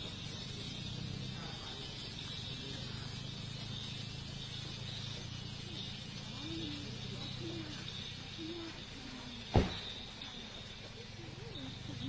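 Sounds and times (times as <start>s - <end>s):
car engine idling: 0.0s - 12.0s
forest insects droning: 0.0s - 12.0s.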